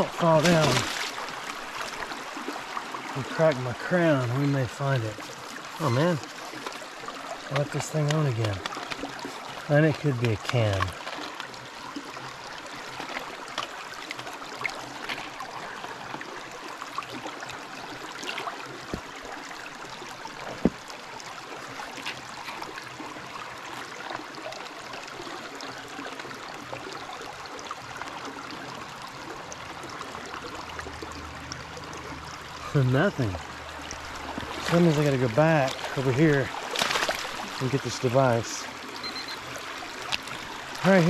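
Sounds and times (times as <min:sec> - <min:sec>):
creek water trickling: 0:00.0 - 0:41.0.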